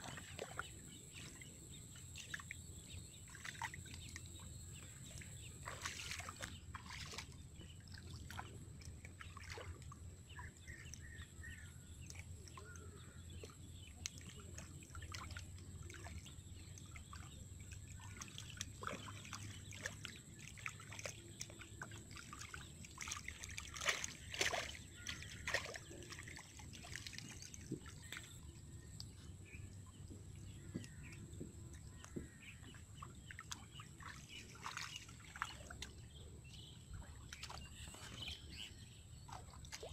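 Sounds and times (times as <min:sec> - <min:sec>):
hands sloshing in muddy water: 0:00.0 - 0:39.9.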